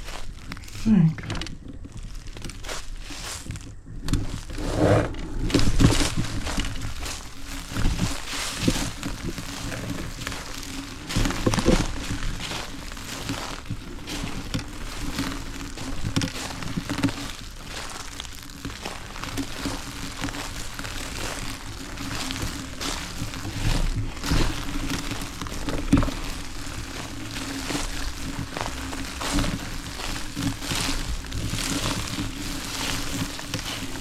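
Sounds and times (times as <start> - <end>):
tyres crunching on sandy trail: 0.0 - 34.0
electric bike motor hum: 4.0 - 34.0.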